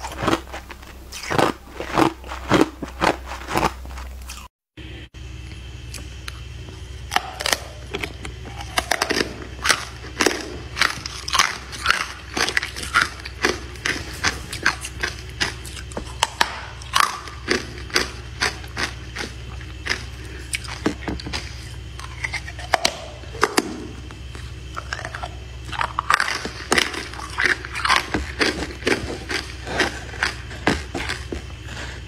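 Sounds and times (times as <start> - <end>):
crunching and chewing ice: 0.0 - 4.5, 5.4 - 32.0
steady low hum: 0.0 - 32.0.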